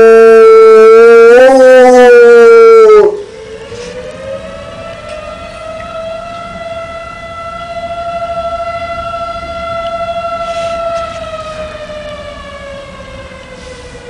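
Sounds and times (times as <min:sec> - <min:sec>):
tornado siren wailing: 0:00.0 - 0:14.0.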